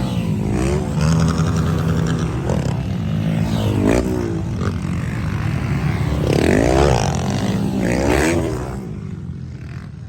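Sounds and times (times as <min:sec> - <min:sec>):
dirt bikes revving: 0:00.0 - 0:10.0.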